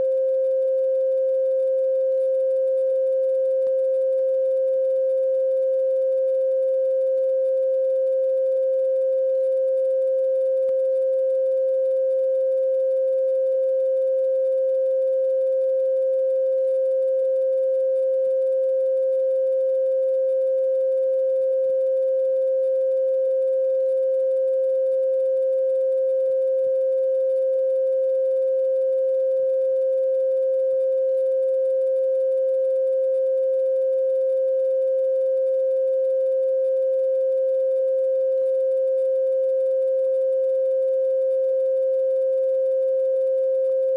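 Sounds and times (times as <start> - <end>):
steady electronic sine tone: 0.0 - 43.9.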